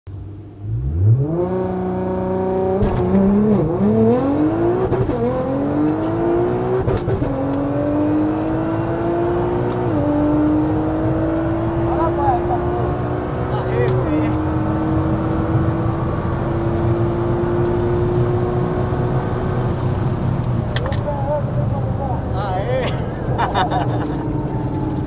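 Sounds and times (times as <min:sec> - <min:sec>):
car engine accelerating hard: 0:00.2 - 0:25.0.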